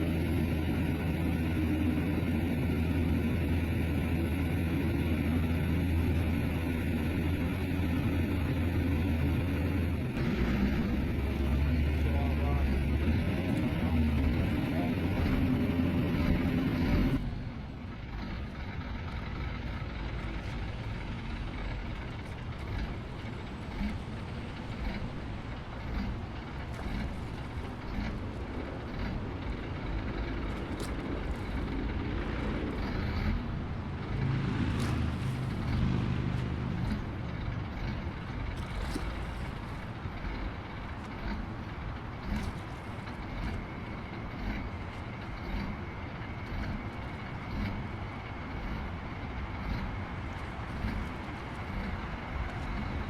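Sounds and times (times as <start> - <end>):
heavy machine diesel engines: 0.0 - 53.0.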